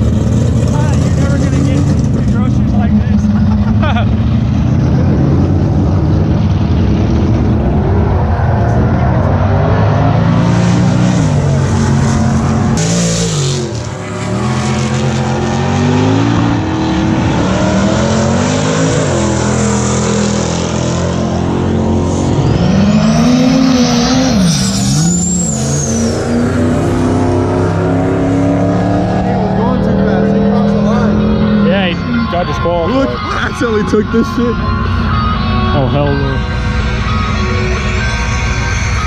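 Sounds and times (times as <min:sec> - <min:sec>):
race car engines revving: 0:00.0 - 0:39.0.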